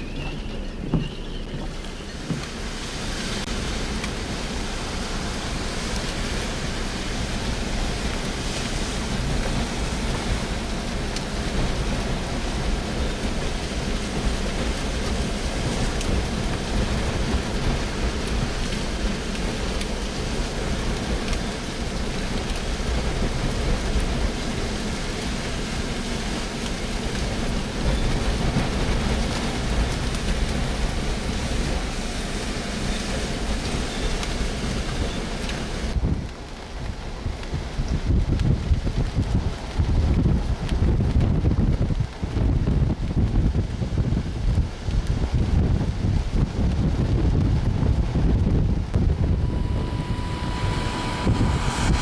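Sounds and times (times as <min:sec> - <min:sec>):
storm wind and rain: 0:00.0 - 0:52.0.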